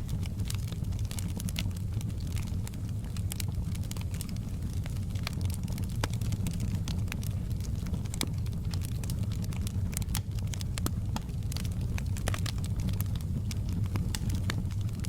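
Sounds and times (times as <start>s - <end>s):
fire crackles and pops: 0.0s - 15.0s
wood fire flames rumbling: 0.0s - 15.0s.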